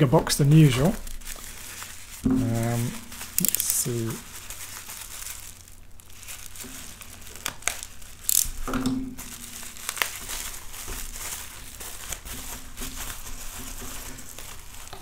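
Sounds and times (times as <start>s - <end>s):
bubble wrap crinkling: 0.2s - 15.0s.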